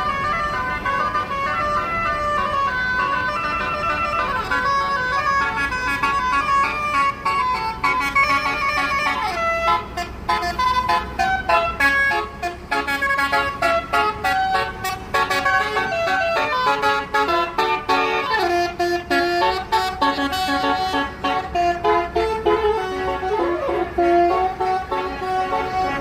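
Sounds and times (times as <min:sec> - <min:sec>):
bus horn playing melody: 0:00.0 - 0:26.0.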